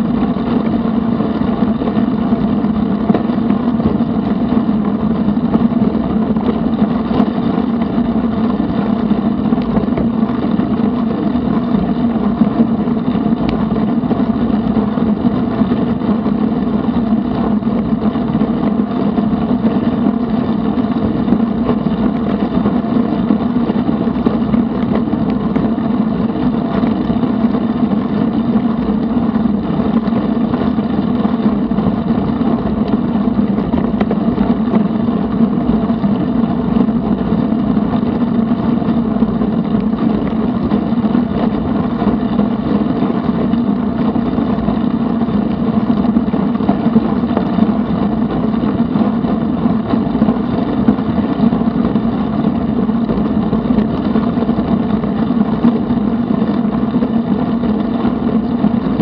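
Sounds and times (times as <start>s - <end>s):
constant low hum: 0.0s - 59.0s
wind rushing over microphone: 0.0s - 59.0s.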